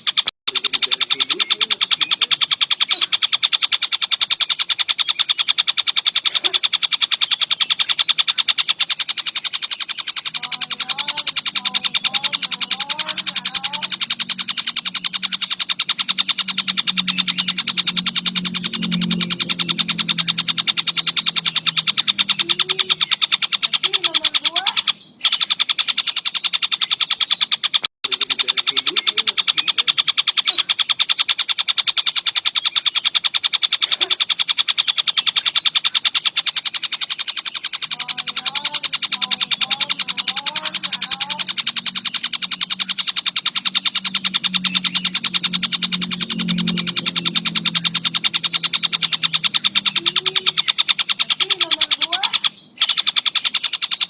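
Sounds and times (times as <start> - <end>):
faint bird chirps: 0.0 - 54.0
kingfisher rattling trill call: 0.0 - 54.0.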